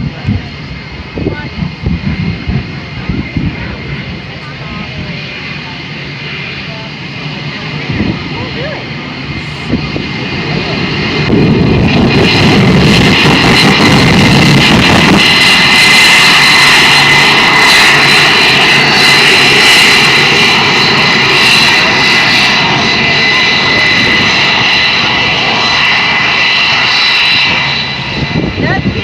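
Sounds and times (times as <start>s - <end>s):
deep engine rumble: 0.0s - 29.0s
jet engine roaring with whine: 0.0s - 29.0s.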